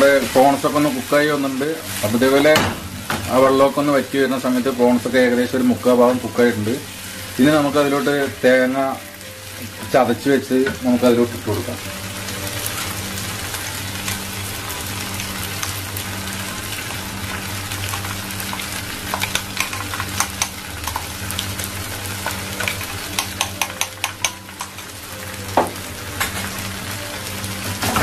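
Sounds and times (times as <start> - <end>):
prawns sizzling in oil: 0.0 - 28.0.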